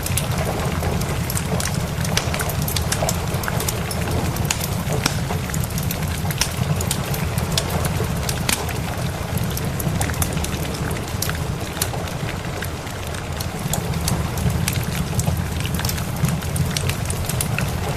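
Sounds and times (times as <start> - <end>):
rain hissing: 0.0 - 17.9
wood fire crackling: 0.0 - 17.9.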